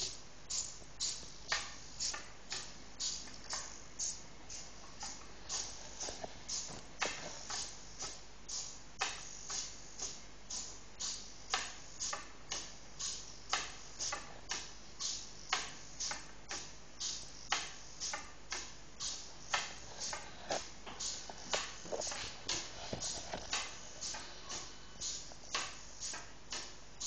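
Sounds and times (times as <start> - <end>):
robot legs clicking and tapping: 0.0 - 26.8.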